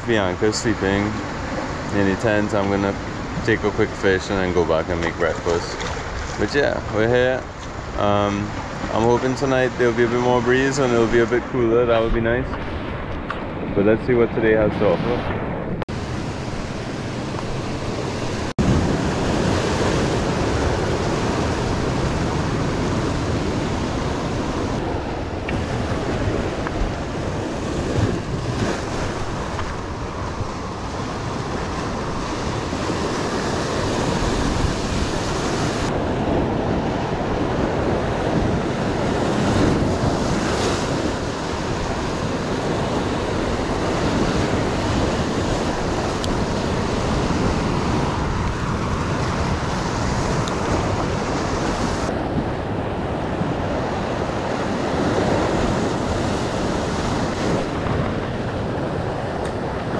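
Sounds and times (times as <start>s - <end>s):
sea waves breaking on shore: 0.0s - 59.9s
wind buffeting microphone: 0.0s - 59.9s.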